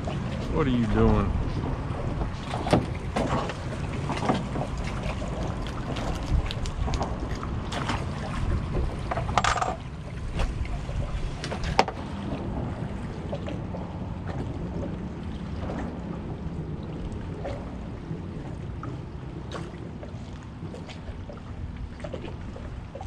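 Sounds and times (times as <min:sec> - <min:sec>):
water lapping: 0:00.0 - 0:23.0
wind: 0:00.0 - 0:23.0.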